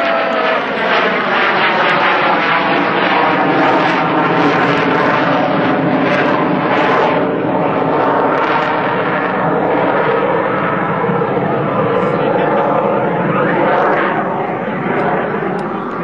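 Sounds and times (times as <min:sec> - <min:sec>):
aircraft flying past low: 0:00.0 - 0:16.0.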